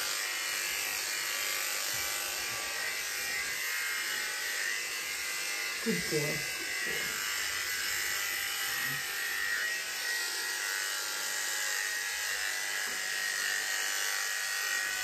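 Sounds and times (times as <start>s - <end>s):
electric clippers humming: 0.0s - 15.0s.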